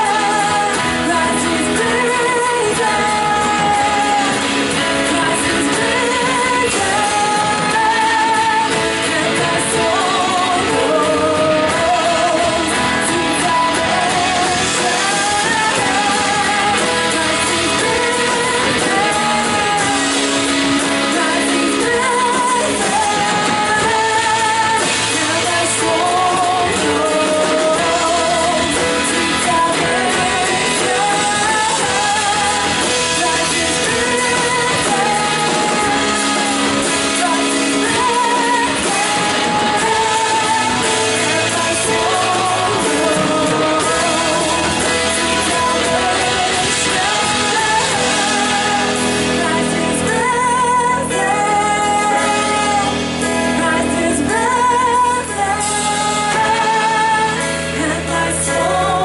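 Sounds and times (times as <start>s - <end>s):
live band playing: 0.0s - 59.0s
person singing: 0.0s - 59.0s.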